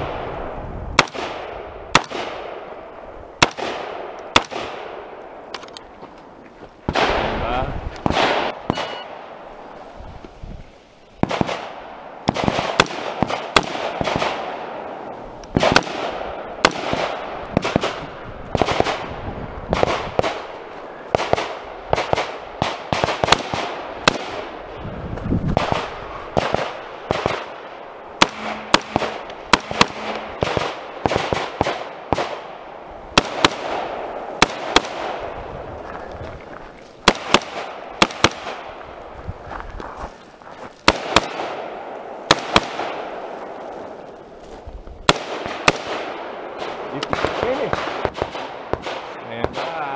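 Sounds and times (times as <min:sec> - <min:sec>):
rifle shots with echo: 0:00.0 - 0:05.7, 0:06.9 - 0:09.5, 0:11.2 - 0:24.7, 0:25.6 - 0:35.6, 0:37.0 - 0:38.8, 0:40.8 - 0:44.1, 0:45.0 - 0:49.9.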